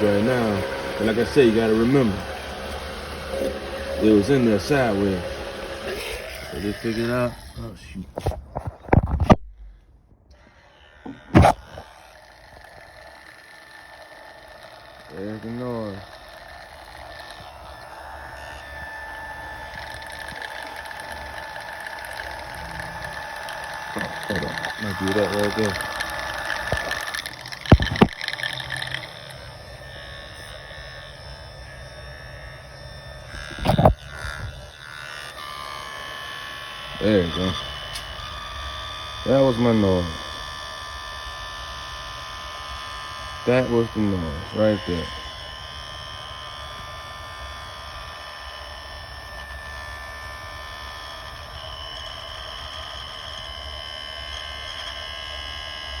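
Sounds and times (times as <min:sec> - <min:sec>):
dishwasher pump whining: 0:00.0 - 0:56.0
low running hum: 0:00.0 - 0:56.0.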